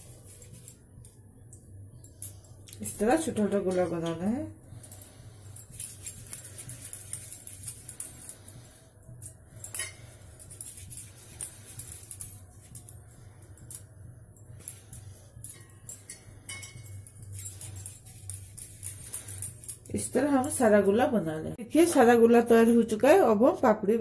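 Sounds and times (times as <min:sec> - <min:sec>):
bangles clinking: 0:00.0 - 0:21.2
steady low hum: 0:00.0 - 0:24.0.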